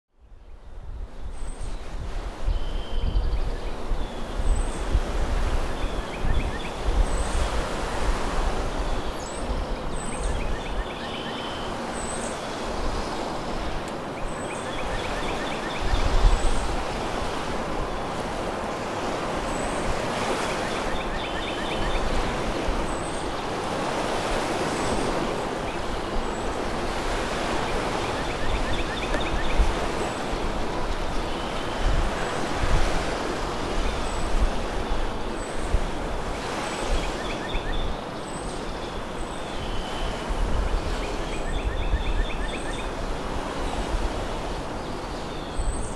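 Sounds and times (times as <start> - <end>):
wind on microphone: 0.2 - 10.9, 11.7 - 45.9
waves washing onto shore: 3.6 - 45.9.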